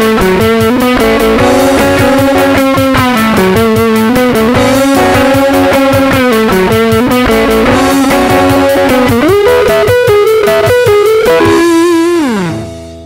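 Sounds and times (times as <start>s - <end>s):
electric guitar rapidly picked: 0.0s - 13.0s.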